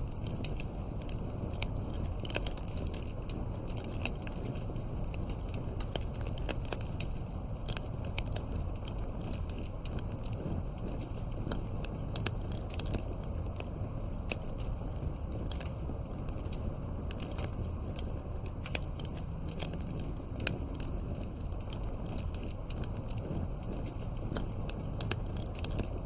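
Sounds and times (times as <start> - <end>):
burning wood crackling and popping: 0.0 - 26.0
campfire low rush: 0.0 - 26.0.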